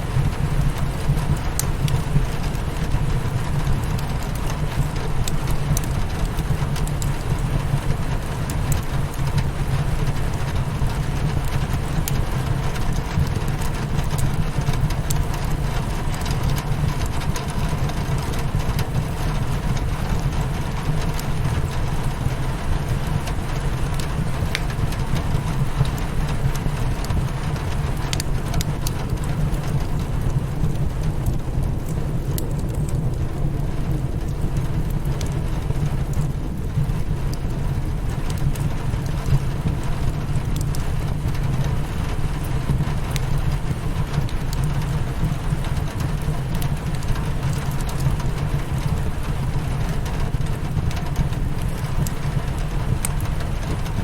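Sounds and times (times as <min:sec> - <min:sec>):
fireplace crackling: 0:00.0 - 0:54.0
rain against a windowpane: 0:00.0 - 0:54.0.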